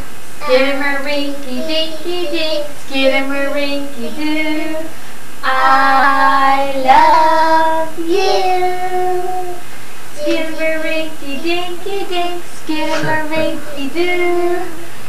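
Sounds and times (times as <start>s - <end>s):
child and woman singing: 0.4s - 9.6s, 10.2s - 14.9s.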